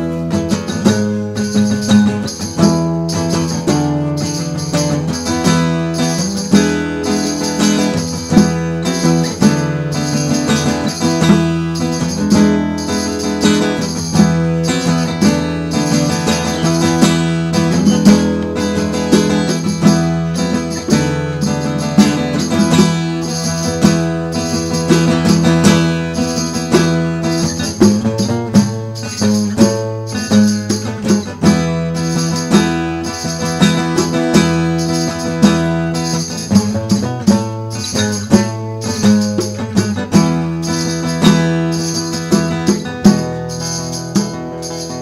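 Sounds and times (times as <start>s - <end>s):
jingling tambourine-like percussion: 0.0s - 45.0s
plucked guitar music: 0.0s - 45.0s.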